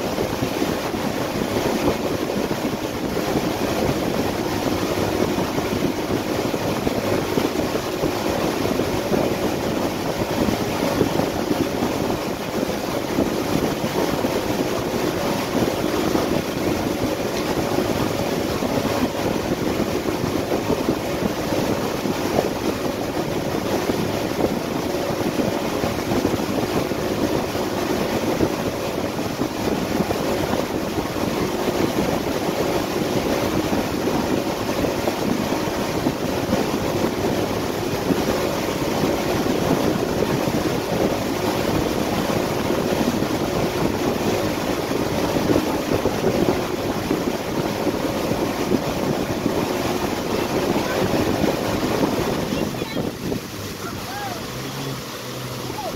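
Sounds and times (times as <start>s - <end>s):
boat engine hum: 0.0s - 55.9s
water churning: 0.0s - 55.9s
wind buffeting microphone: 0.0s - 55.9s.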